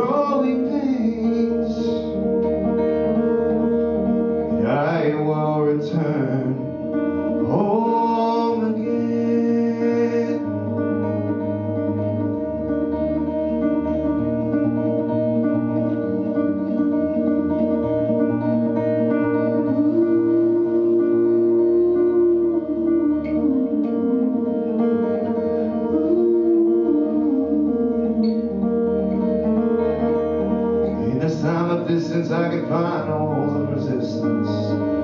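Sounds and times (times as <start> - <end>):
held lead melody: 0.0 - 35.0
strummed guitar: 0.0 - 35.0.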